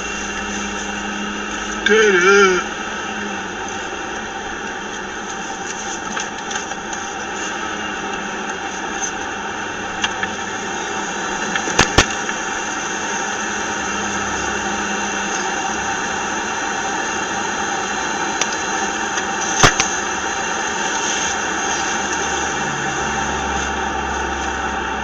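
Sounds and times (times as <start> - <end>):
car cabin road rush: 0.0 - 25.0
constant whine: 0.0 - 25.0.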